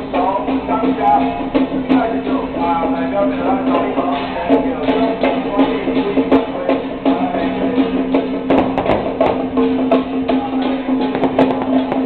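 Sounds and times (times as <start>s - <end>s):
drum and percussion strikes: 0.0s - 12.0s.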